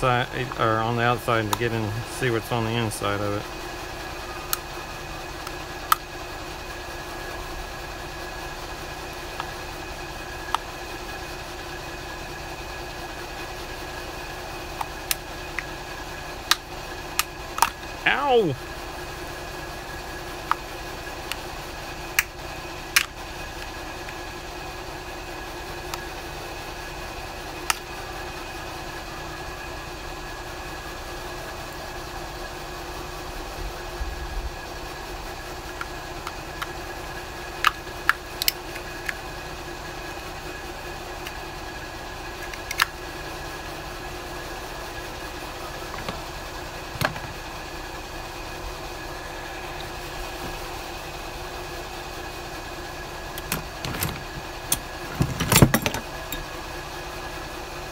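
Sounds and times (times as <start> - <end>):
steady mechanical hum: 0.0 - 57.9.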